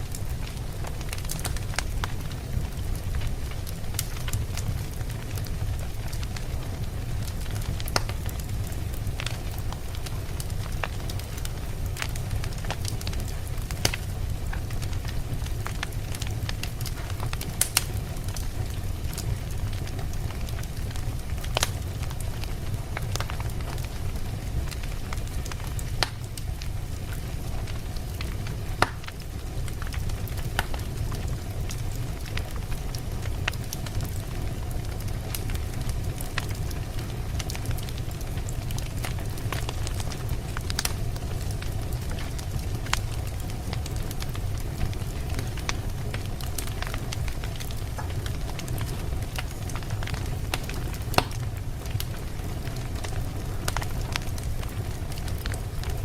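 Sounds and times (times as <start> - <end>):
campfire rumble: 0.0 - 56.0
wood crackling and popping: 0.0 - 56.0.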